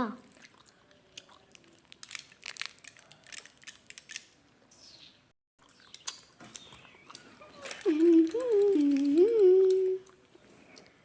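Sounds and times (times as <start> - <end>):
faint clicks and crinkling: 0.2 - 4.4, 5.6 - 11.0.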